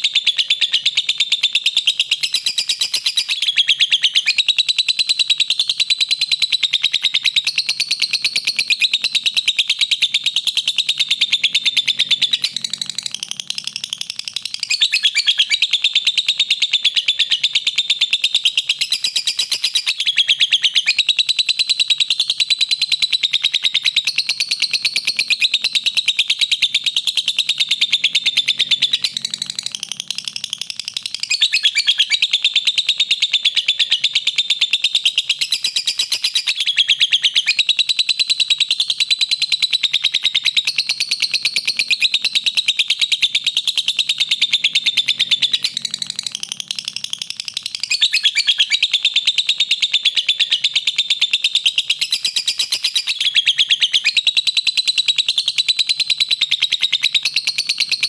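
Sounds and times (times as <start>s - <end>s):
lovebird rapid high chirps: 0.0s - 58.0s.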